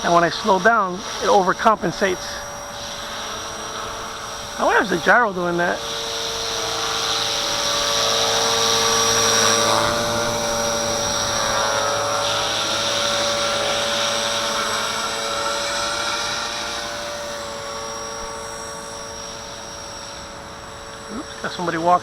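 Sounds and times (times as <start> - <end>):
rc helicopter motor whine: 0.0 - 22.0.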